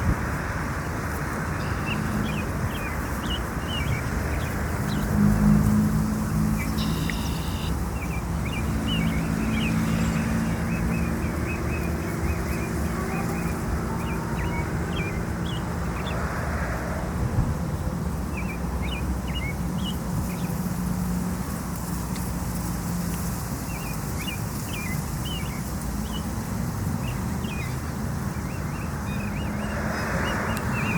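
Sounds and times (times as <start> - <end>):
distant traffic rumble: 0.0 - 30.9
faint engine hum: 0.8 - 30.9
small birds chirping: 1.1 - 5.2, 6.5 - 16.2, 18.3 - 20.7, 21.8 - 30.9.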